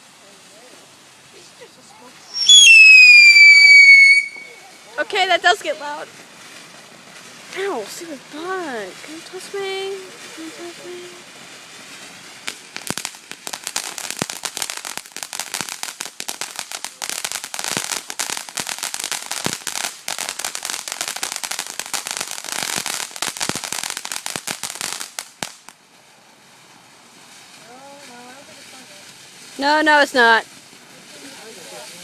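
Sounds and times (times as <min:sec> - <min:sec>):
firework crackling: 0:00.0 - 0:32.0.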